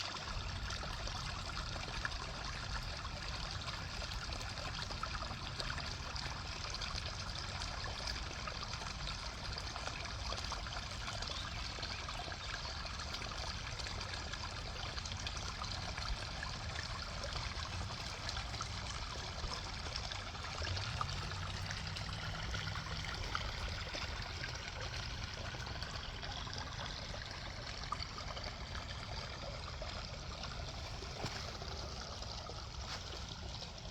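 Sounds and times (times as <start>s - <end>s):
brook babbling over rocks: 0.0s - 33.9s.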